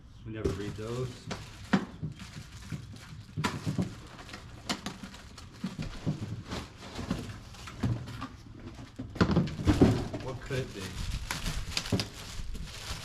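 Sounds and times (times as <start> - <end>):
cardboard packaging rustling: 0.5 - 13.0.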